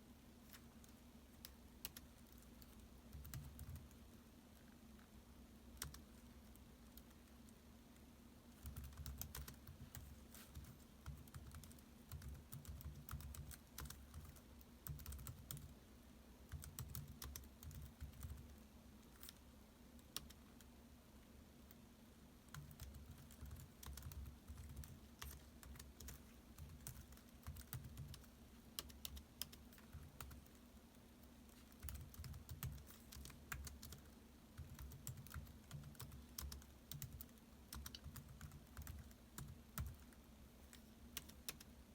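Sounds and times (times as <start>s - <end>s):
faint low hum: 0.0s - 41.9s
laptop keyboard typing: 0.5s - 4.0s, 5.7s - 7.5s, 8.5s - 15.8s, 16.4s - 20.7s, 22.5s - 41.8s.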